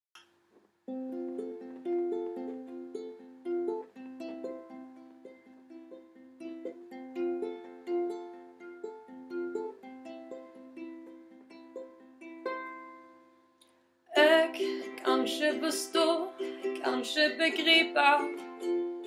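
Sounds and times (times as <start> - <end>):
ukulele fingerpicking: 0.9 - 19.0.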